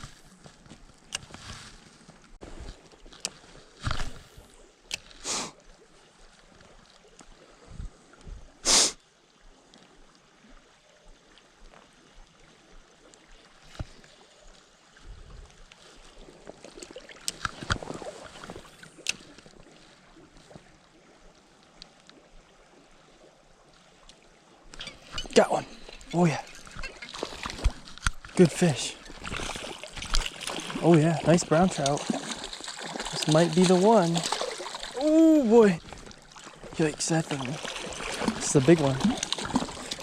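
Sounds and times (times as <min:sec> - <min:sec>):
river water sloshing and trickling: 0:00.0 - 0:40.0.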